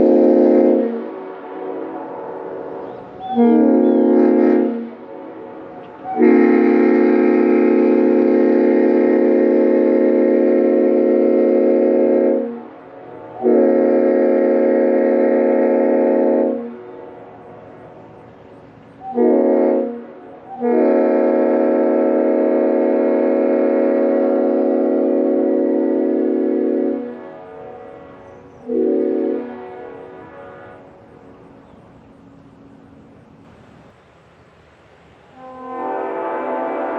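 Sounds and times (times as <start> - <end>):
deep train air horn blasts: 0.0 - 31.9, 35.3 - 36.9.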